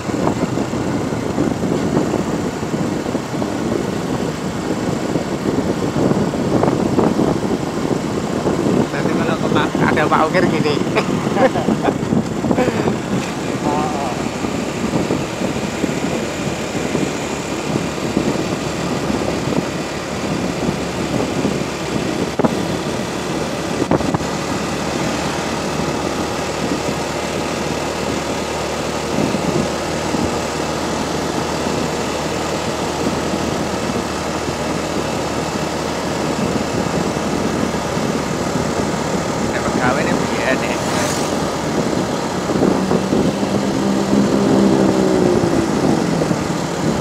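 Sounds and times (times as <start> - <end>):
vehicle engine and tyres on road: 0.0 - 47.0
wind buffeting microphone: 0.0 - 47.0.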